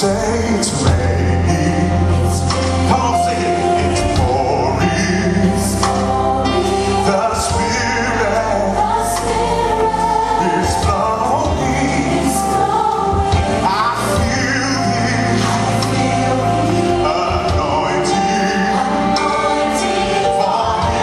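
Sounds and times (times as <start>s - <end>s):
band with bass: 0.0s - 21.0s
voices singing: 0.0s - 21.0s.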